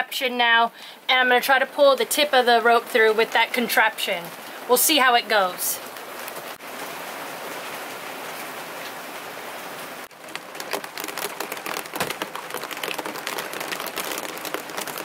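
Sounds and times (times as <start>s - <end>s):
raindrops hitting a surface: 0.0s - 15.0s
heavy rain pouring: 1.0s - 15.0s.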